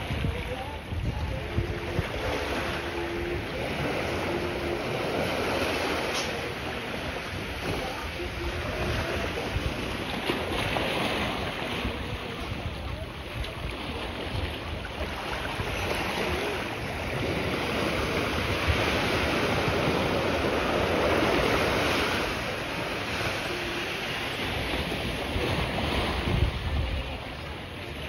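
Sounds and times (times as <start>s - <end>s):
small waves washing ashore: 0.0s - 28.0s
wind on microphone: 0.0s - 28.0s.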